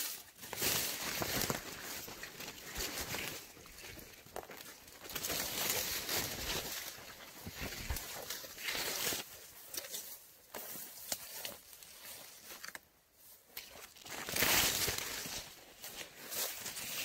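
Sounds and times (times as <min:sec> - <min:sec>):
dry corn stalks rustling and crackling: 0:00.0 - 0:17.0.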